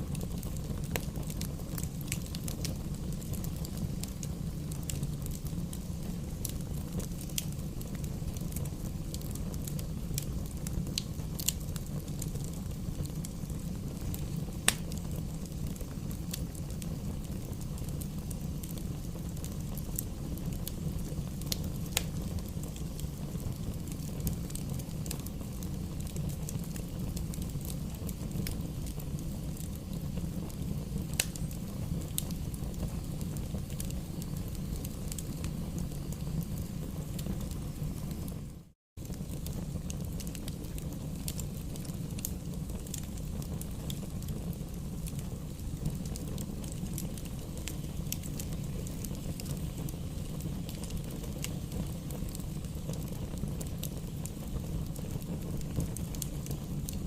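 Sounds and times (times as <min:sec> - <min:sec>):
bonfire rumble: 0:00.0 - 0:57.0
burning wood crackling and popping: 0:00.0 - 0:57.0.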